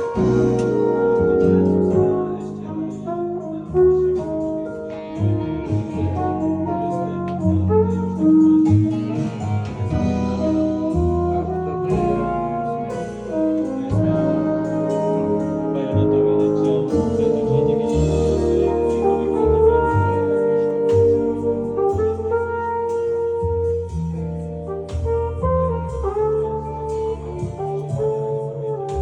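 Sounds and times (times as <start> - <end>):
deep bass line: 0.0 - 29.0
jazz horn notes: 0.0 - 29.0.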